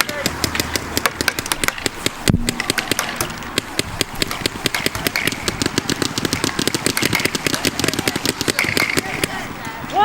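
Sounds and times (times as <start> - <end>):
paintball markers firing: 0.0 - 9.5.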